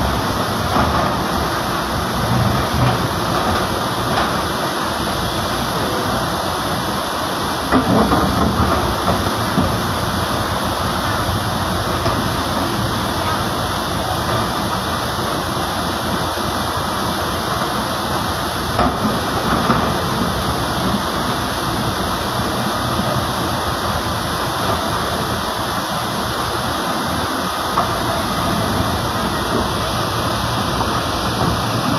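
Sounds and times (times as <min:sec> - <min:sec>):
excavator diesel engine running: 0:00.0 - 0:31.9
river water rushing: 0:00.0 - 0:31.9.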